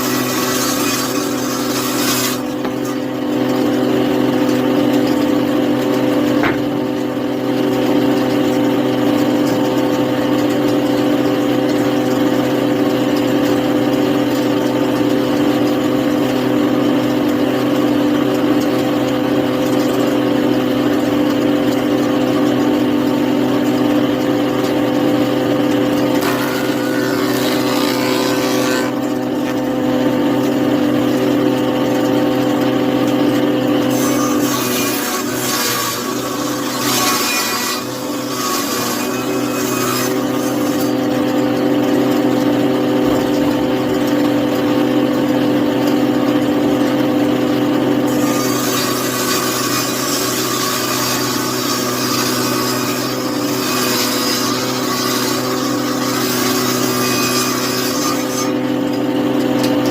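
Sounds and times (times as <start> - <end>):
power saw motor running: 0.0 - 59.9.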